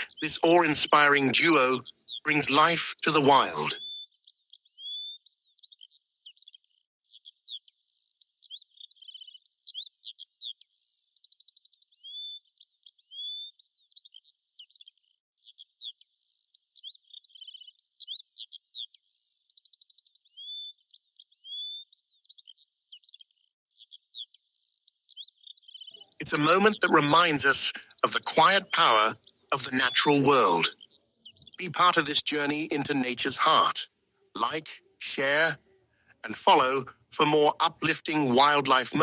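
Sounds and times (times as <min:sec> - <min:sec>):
birds singing: 0:00.0 - 0:06.4, 0:07.1 - 0:14.7, 0:15.4 - 0:33.8.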